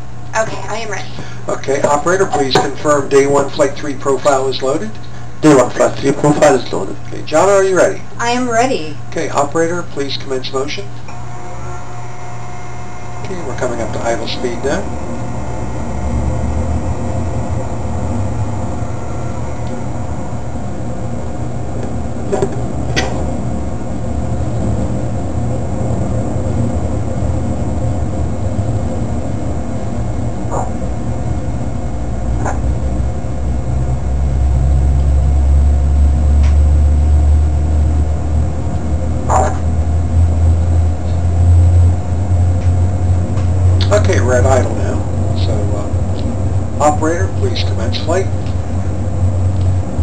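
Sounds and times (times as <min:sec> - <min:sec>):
centrifuge mechanical hum: 0:00.0 - 0:50.0.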